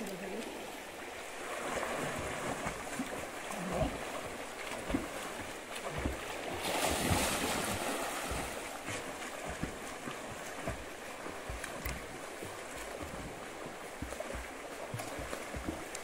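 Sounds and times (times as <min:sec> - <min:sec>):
moving water: 0:00.0 - 0:16.0
water splashing: 0:00.0 - 0:16.0.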